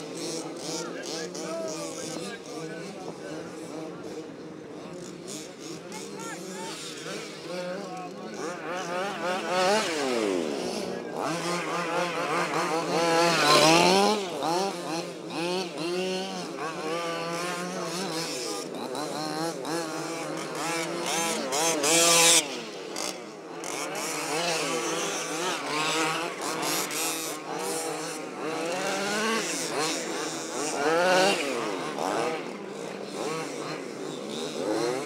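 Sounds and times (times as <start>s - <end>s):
small two-stroke engines revving: 0.0s - 35.0s.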